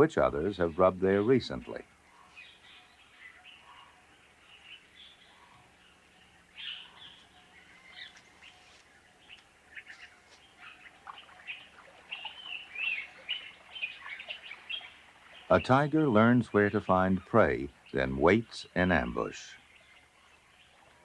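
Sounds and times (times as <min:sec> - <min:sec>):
birds chirping and calling: 0:00.0 - 0:21.0.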